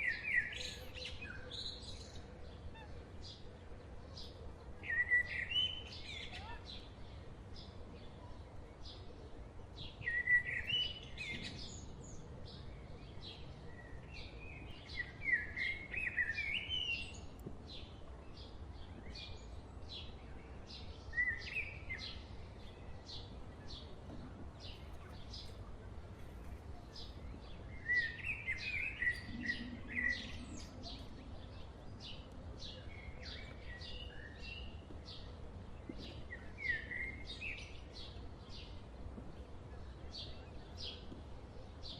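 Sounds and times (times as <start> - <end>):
birds chirping: 4.2 - 41.9.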